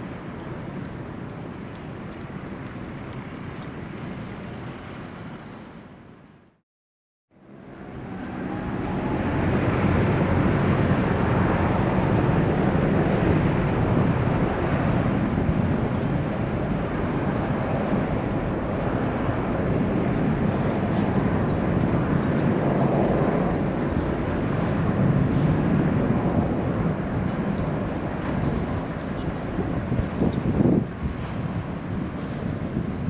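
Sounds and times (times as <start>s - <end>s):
jet engines at high power: 0.0s - 6.6s, 7.3s - 33.0s.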